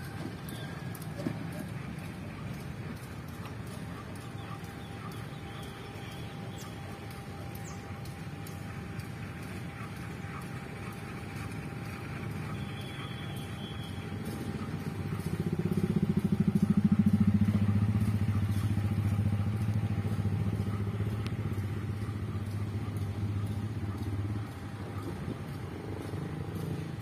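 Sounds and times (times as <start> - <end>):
locomotive engine throbbing: 0.0 - 27.0.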